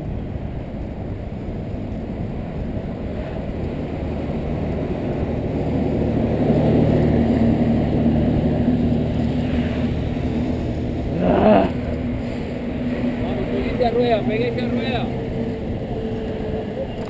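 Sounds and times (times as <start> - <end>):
wind rushing over microphone: 0.0 - 17.0
tyres rolling on asphalt: 0.2 - 17.0.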